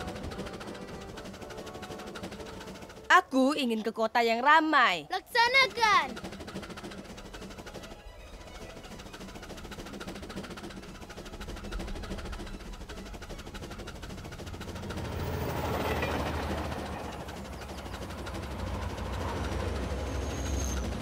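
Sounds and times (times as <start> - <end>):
toy train rumbling and clicking: 0.0 - 21.0.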